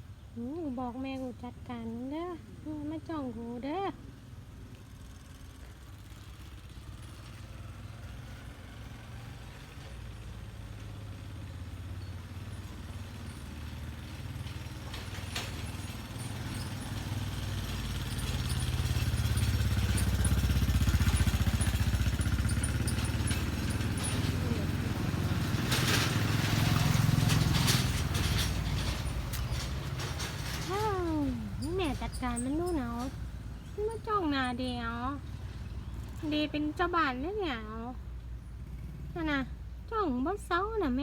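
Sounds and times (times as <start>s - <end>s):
engine rumbling: 0.0s - 41.0s.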